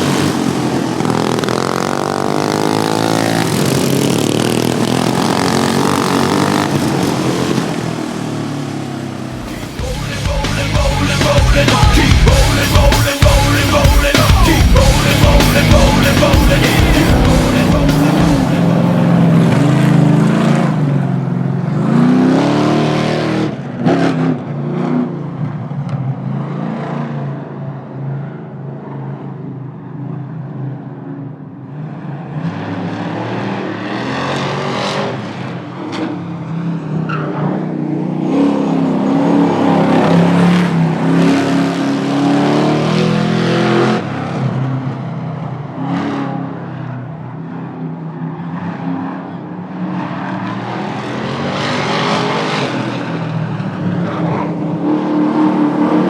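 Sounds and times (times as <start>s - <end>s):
car engines accelerating hard: 0.0s - 56.0s.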